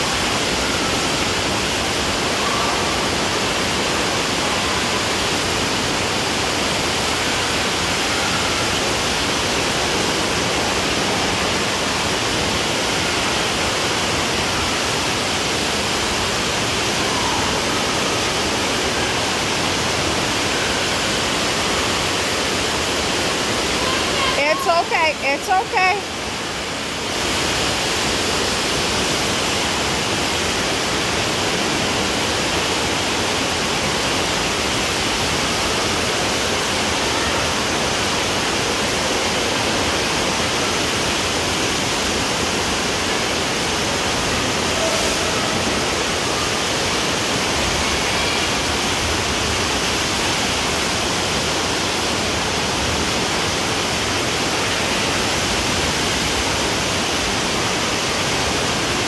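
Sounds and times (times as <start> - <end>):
water rushing down slide: 0.0 - 59.0.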